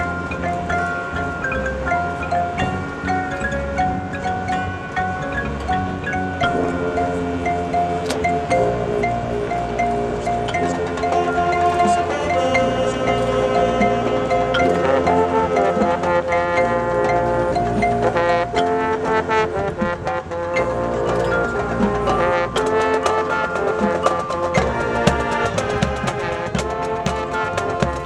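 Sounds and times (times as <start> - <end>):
brass sustained chords: 0.0 - 28.0
drumline percussion: 0.0 - 28.0.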